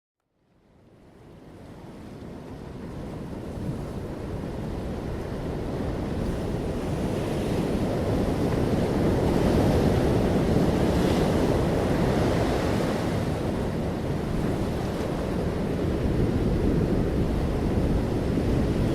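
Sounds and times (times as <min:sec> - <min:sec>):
sea waves breaking on shore: 0:00.8 - 0:18.9.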